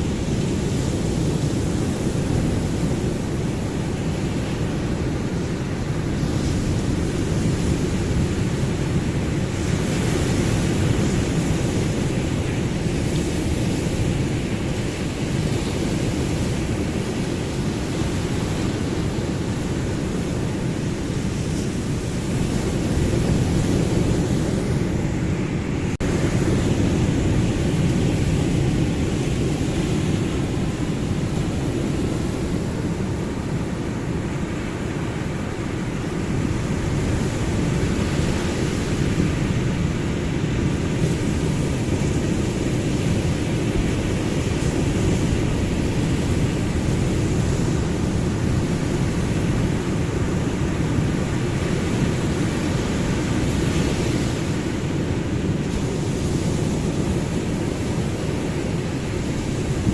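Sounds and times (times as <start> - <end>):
ocean surf waves: 0.0 - 59.9.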